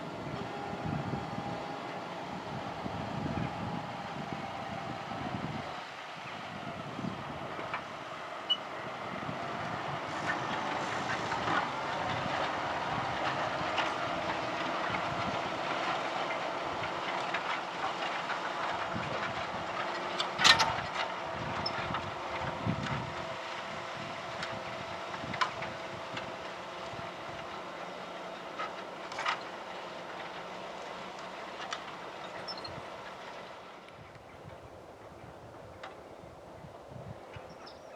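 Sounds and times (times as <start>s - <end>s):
tractor diesel engine running: 0.0s - 37.8s.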